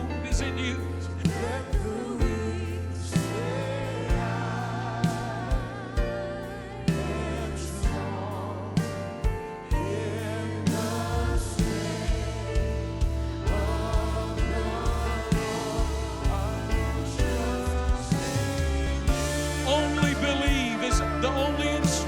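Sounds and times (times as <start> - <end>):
singers holding notes: 0.0 - 22.0
steady bass line: 0.0 - 22.0
regular drum beat: 1.3 - 22.0.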